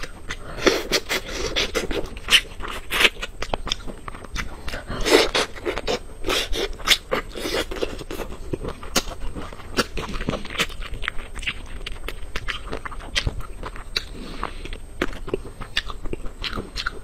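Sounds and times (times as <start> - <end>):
chewing meat: 0.0 - 17.0.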